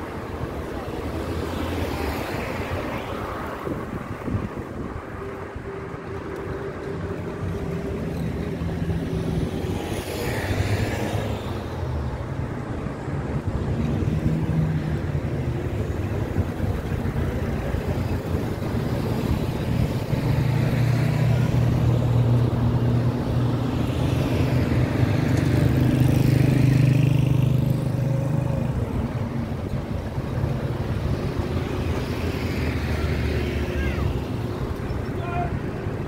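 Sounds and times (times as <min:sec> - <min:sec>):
vehicle engines running: 0:00.0 - 0:36.0.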